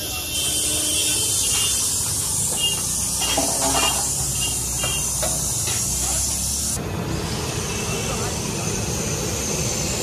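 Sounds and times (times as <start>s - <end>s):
food cooking hiss: 0.0s - 10.0s.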